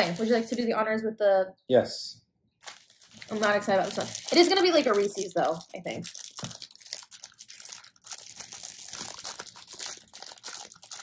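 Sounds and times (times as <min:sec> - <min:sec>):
plastic wrapper crinkling: 0:00.0 - 0:00.7, 0:02.6 - 0:11.0.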